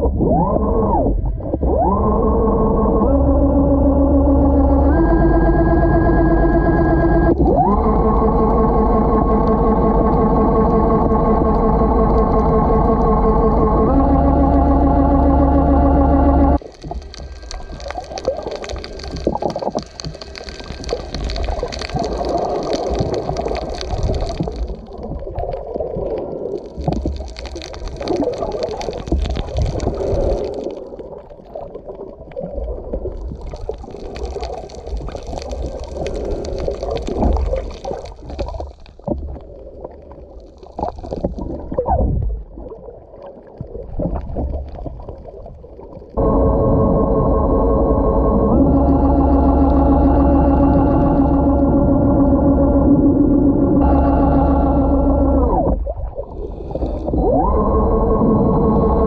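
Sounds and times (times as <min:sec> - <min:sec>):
underwater gurgling and rushing: 0:00.0 - 0:59.0.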